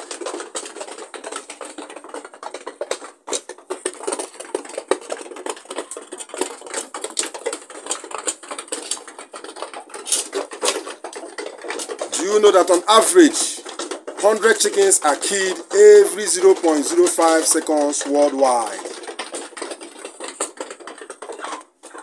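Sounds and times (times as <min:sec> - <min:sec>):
rapid sharp tapping: 0:00.0 - 0:22.0.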